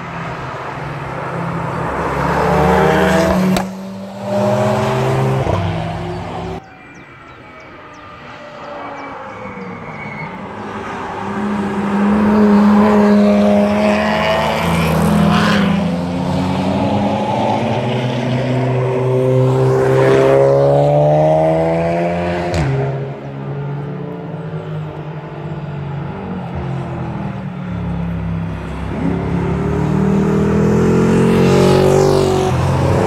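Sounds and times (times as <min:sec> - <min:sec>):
car engines accelerating: 0:00.0 - 0:33.0
tyre and road noise: 0:00.0 - 0:33.0.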